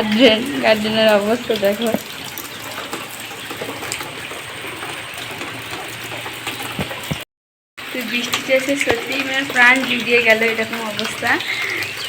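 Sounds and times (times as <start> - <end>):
rain drops ticking on surfaces: 0.0 - 7.2, 7.8 - 12.0.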